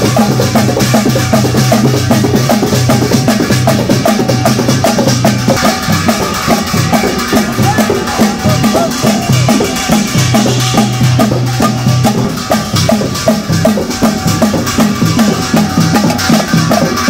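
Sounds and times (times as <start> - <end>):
barrel drums beating: 0.0 - 17.0.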